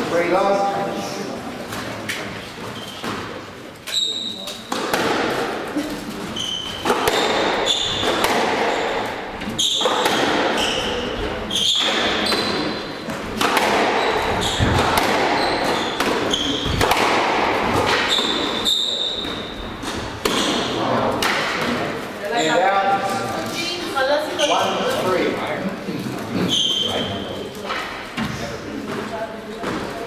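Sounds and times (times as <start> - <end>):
squash ball hitting racquets and walls: 1.6 - 25.5, 26.2 - 30.0
shoes squeaking on wooden floor: 2.3 - 4.8, 5.7 - 30.0.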